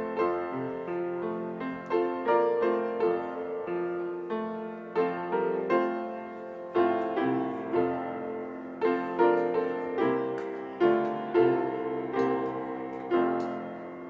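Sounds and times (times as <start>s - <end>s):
solo piano slow chords: 0.0s - 14.0s.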